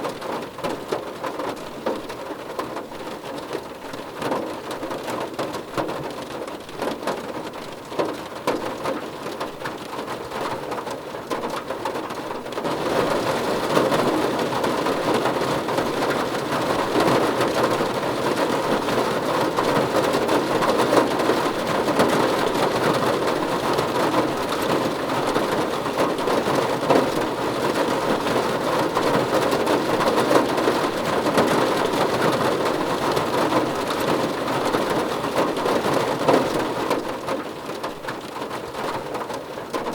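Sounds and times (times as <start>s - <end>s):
rain pattering on a car roof: 0.0s - 39.9s.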